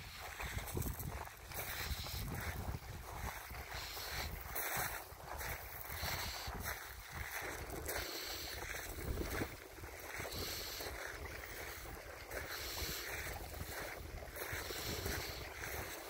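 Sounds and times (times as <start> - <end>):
small waves lapping shoreline: 0.0 - 16.0
wind buffeting microphone: 0.0 - 16.0.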